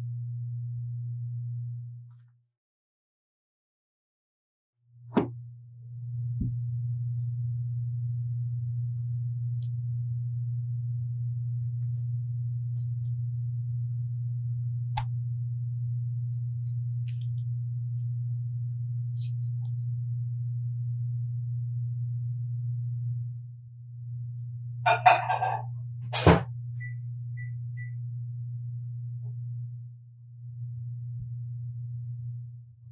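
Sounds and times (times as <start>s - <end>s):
low electrical hum: 0.0s - 2.4s, 5.1s - 32.9s.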